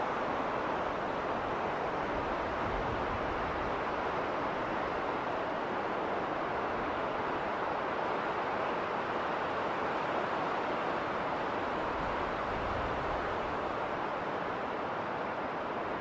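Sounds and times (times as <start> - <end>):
wind howling in snowstorm: 0.0 - 16.0.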